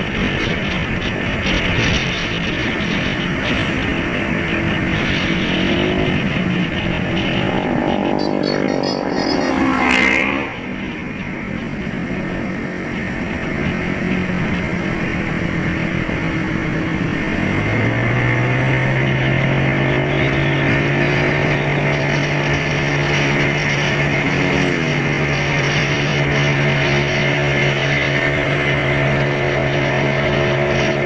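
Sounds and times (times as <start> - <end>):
vehicle engine humming: 0.0 - 31.0
wind noise rushing: 0.0 - 31.0.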